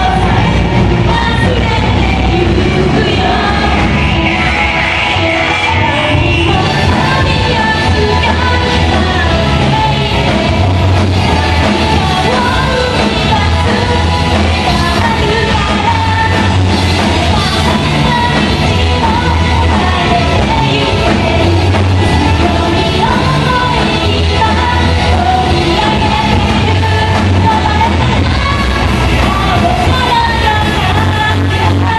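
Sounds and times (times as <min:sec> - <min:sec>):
drums: 0:00.0 - 0:31.9
electric guitar: 0:00.0 - 0:31.9
singer: 0:00.0 - 0:31.9.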